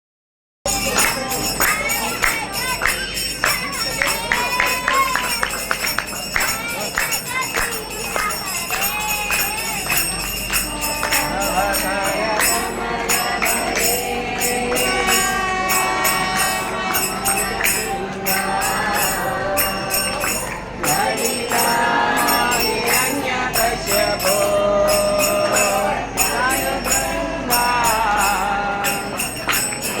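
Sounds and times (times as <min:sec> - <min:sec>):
small metal hand cymbals: 0:00.7 - 0:30.0
voices chanting a devotional melody: 0:00.7 - 0:30.0.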